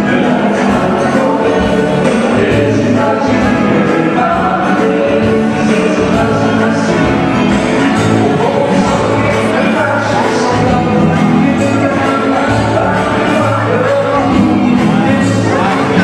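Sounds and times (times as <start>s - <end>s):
electric guitar: 0.0s - 16.0s.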